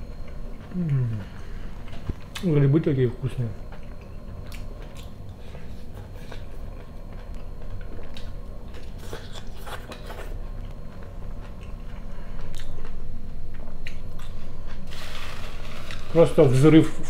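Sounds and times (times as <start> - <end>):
person chewing food: 0.0 - 2.5, 3.6 - 16.1.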